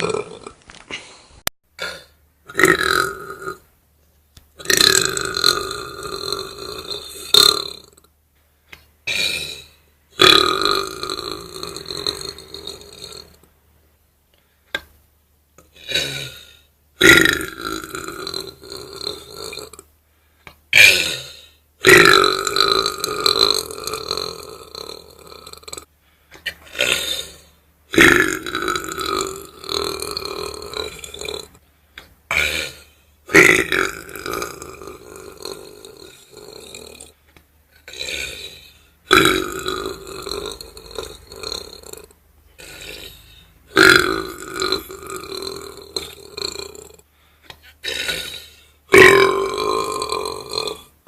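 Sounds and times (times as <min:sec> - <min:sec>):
loud belches: 0:00.0 - 0:00.6, 0:01.8 - 0:03.6, 0:04.6 - 0:08.0, 0:09.1 - 0:13.4, 0:15.8 - 0:19.9, 0:20.7 - 0:25.9, 0:26.5 - 0:31.6, 0:32.3 - 0:37.2, 0:37.8 - 0:47.0, 0:47.8 - 0:51.0.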